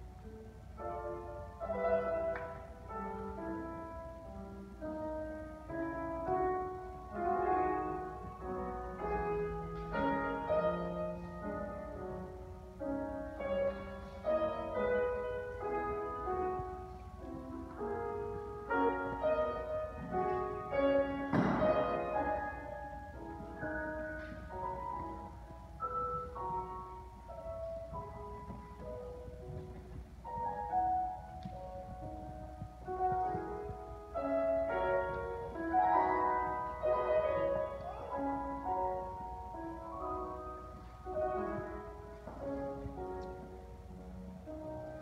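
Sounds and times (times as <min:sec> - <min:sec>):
grand piano playing: 0:00.0 - 0:45.0.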